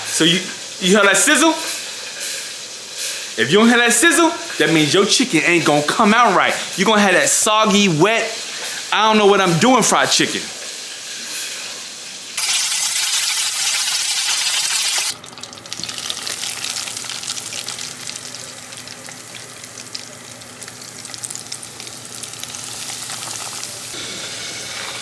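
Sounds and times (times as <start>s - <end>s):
chicken sizzling in hot oil: 0.0s - 6.9s, 8.2s - 25.0s.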